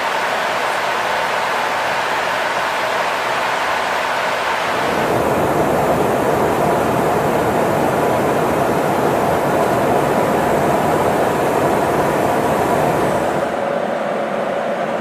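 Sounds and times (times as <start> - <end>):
jet engines and airflow in cabin: 0.0 - 15.0.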